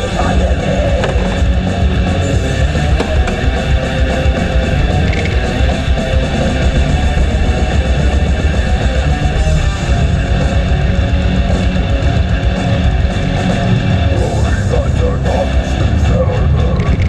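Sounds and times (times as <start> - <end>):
guitar-driven rock music: 0.0 - 17.0.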